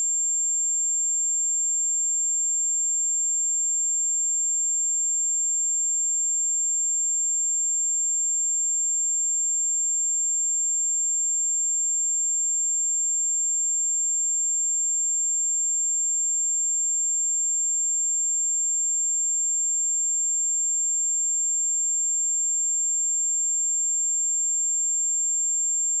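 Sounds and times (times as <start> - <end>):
high-pitched sine test tone: 0.0 - 26.0.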